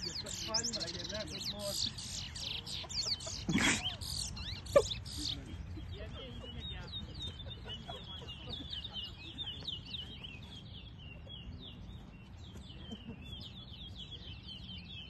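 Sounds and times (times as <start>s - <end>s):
songbird twittering: 0.0s - 15.0s.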